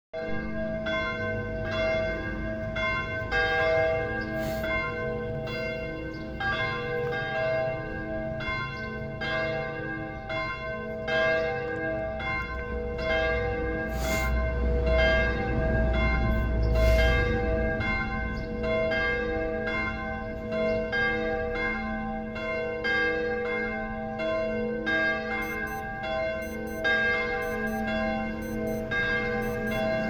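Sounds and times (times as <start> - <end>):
church bells ringing: 0.2 - 30.0.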